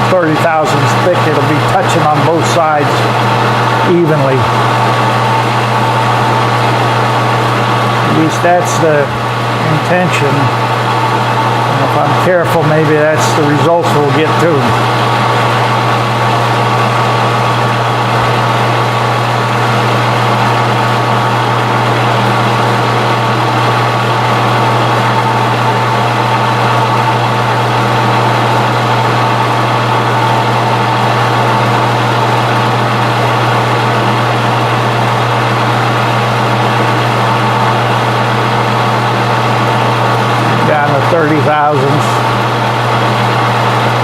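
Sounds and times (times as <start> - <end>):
metal lathe humming: 0.0 - 44.0.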